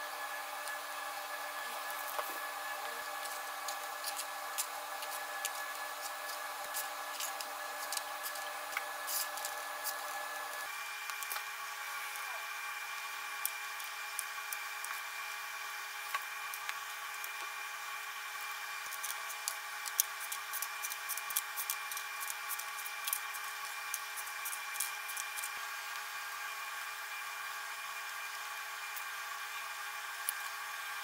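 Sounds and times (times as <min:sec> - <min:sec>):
kitchen machinery humming: 0:00.0 - 0:31.0.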